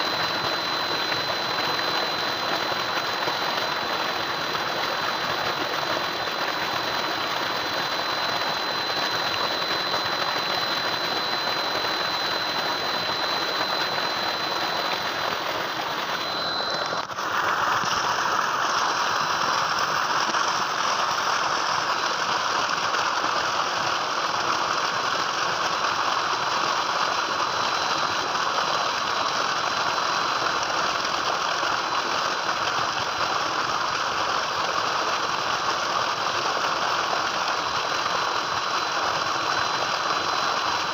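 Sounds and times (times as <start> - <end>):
thin high whine: 0.0 - 40.9
water gushing into tank: 0.0 - 40.9.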